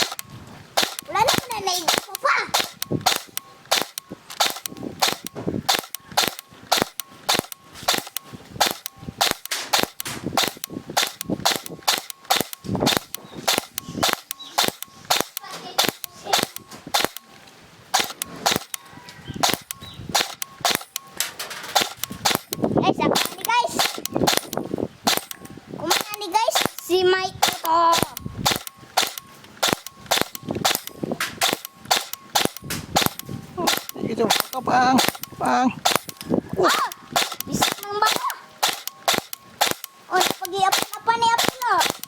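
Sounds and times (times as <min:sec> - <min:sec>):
airsoft gun firing sharp shots: 0:00.0 - 0:17.3, 0:17.9 - 0:42.0.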